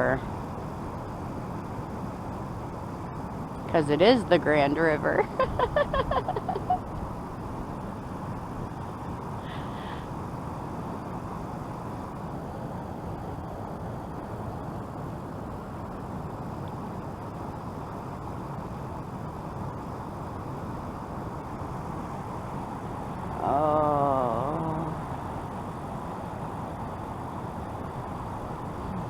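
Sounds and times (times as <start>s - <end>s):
low rushing background noise: 0.0s - 29.0s.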